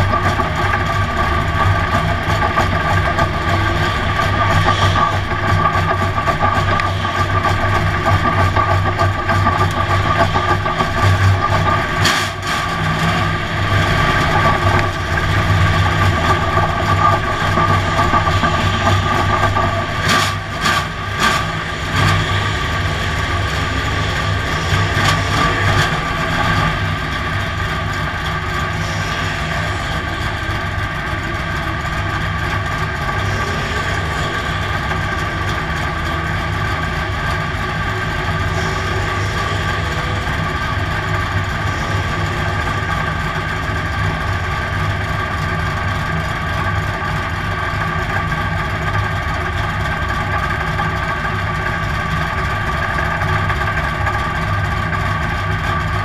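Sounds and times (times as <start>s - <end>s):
race car engine rumble: 0.0s - 56.0s.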